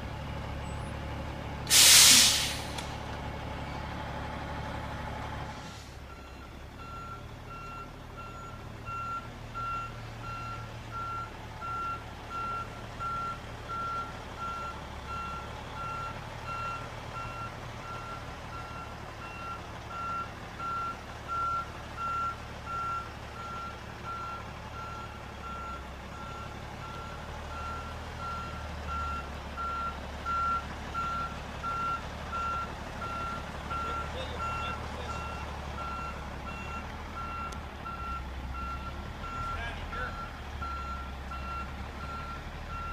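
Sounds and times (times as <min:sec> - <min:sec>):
truck engine rumbling: 0:00.0 - 0:42.9
truck reversing alarm beeping: 0:06.0 - 0:42.9.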